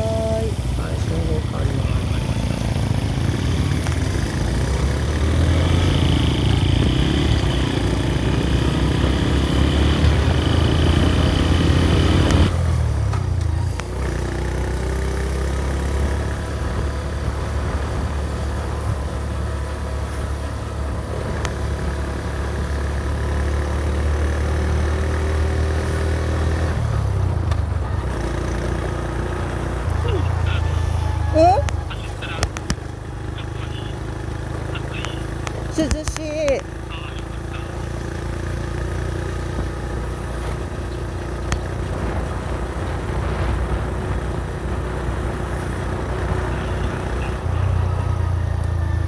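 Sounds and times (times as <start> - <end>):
small motorcycle engine running: 0.0 - 49.0
wind and road noise: 0.0 - 49.0.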